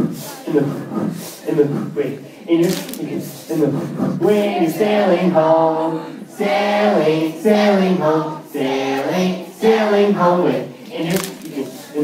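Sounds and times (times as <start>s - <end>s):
crowd singing together: 0.0s - 12.0s.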